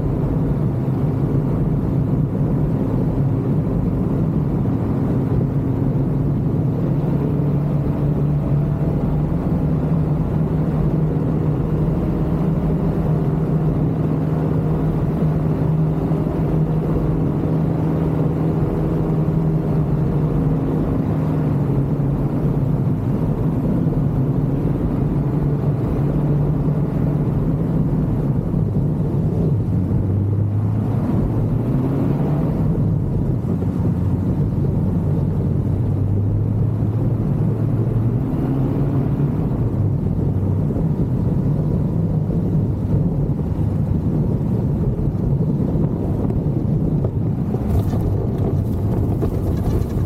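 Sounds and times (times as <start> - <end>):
ultralight aircraft engine running: 0.0 - 50.0.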